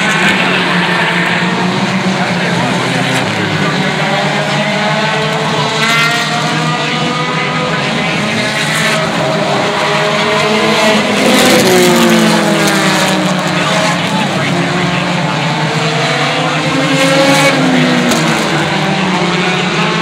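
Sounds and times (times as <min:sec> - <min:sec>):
race cars passing: 0:00.0 - 0:20.0.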